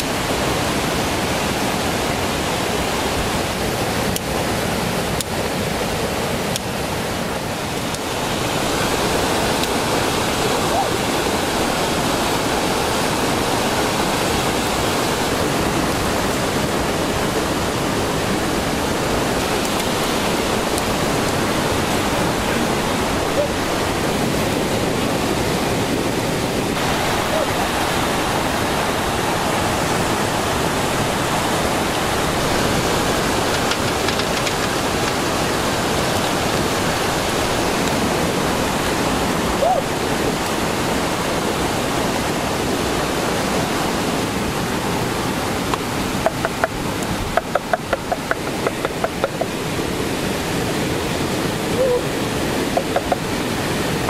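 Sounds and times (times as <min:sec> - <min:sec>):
stream rushing through rapids: 0:00.0 - 0:54.0.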